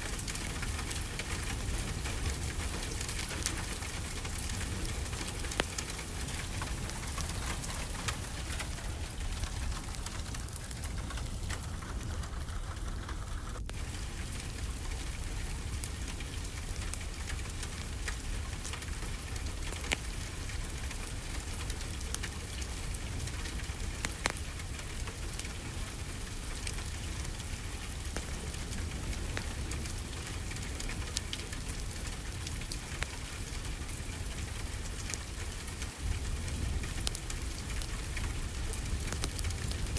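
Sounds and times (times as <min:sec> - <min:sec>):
crackling wood fire: 0:00.0 - 0:39.9
steady rainfall: 0:00.0 - 0:39.9.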